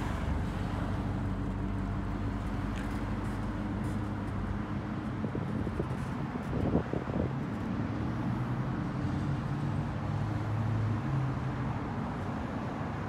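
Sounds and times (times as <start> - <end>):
light street traffic: 0.0 - 13.0.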